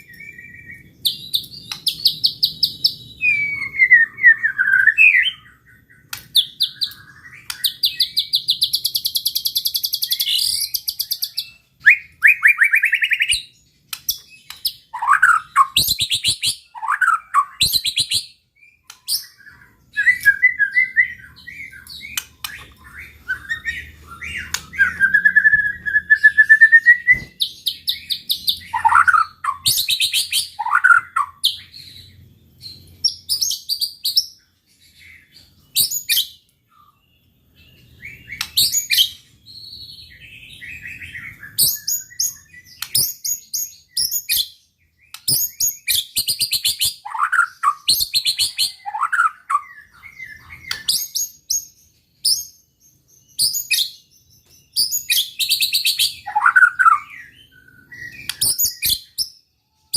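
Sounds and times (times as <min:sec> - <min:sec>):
songbird singing trills and whistles: 0:00.0 - 0:59.9.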